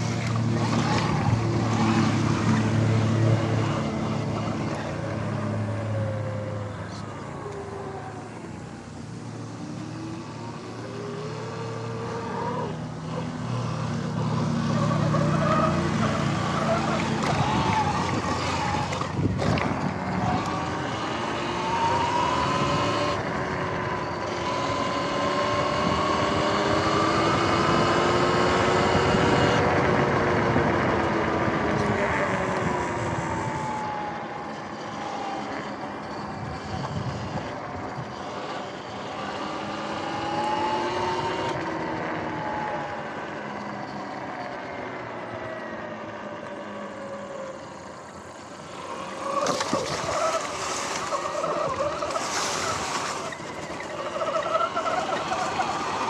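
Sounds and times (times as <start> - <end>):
electric dirt bike motor whine: 0.0 - 56.0
wind and tyre noise: 0.0 - 56.0.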